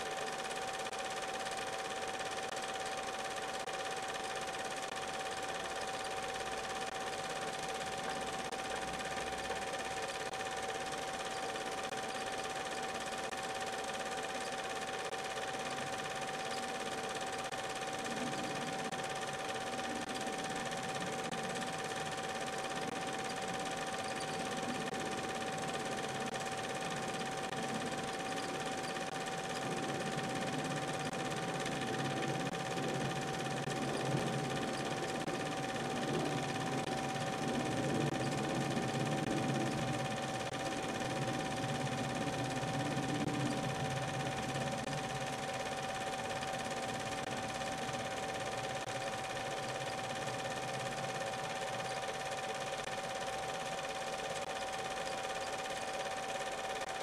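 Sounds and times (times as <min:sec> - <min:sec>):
film projector running: 0:00.0 - 0:57.0.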